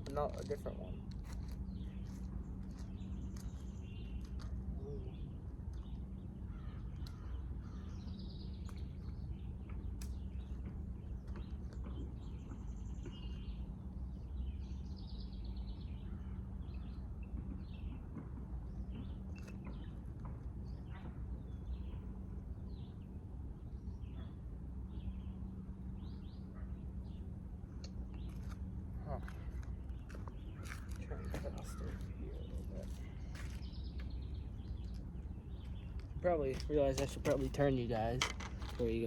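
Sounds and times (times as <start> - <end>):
birds chirping: 0.0 - 39.0
low hum: 0.0 - 39.0.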